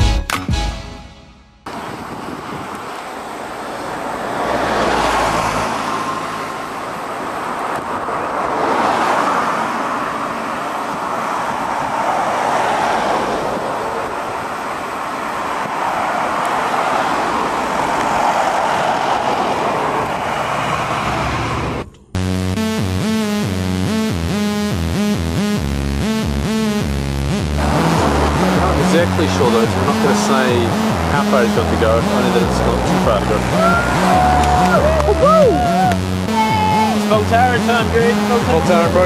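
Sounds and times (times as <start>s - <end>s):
vehicles passing: 1.6s - 39.0s.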